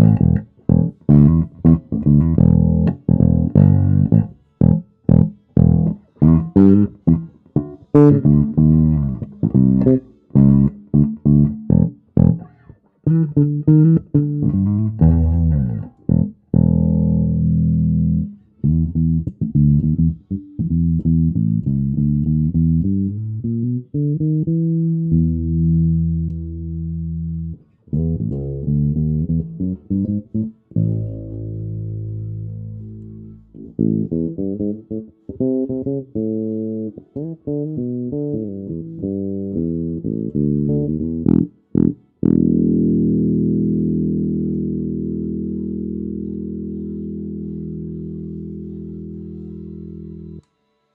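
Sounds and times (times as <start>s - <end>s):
electric bass playing: 0.0s - 50.5s.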